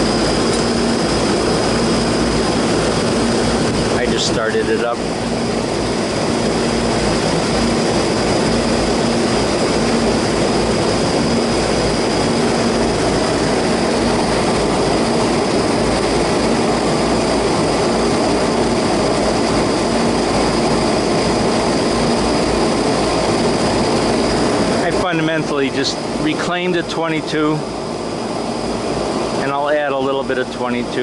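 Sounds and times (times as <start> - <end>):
air conditioner fan rushing: 0.0 - 31.0
pulsing low hum: 0.0 - 31.0.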